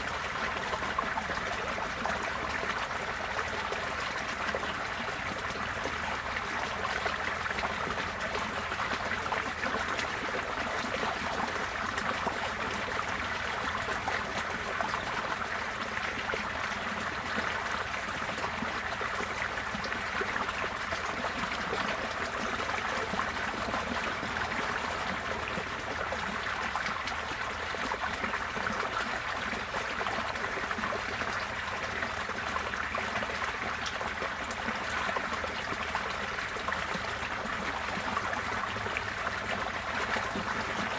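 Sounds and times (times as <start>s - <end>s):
floodwater flowing and splashing: 0.0s - 40.9s.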